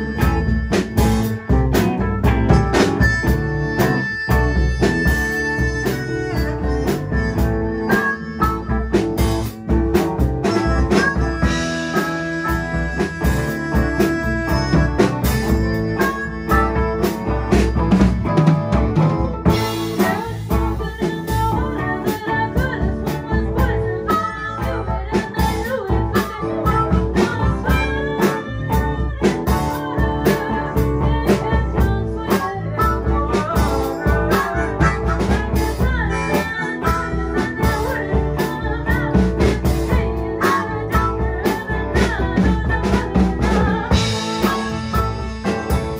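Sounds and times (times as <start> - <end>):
blues-rock band playing: 0.0 - 45.9
drum-kit beat: 0.0 - 45.9
electric guitar: 0.0 - 45.9.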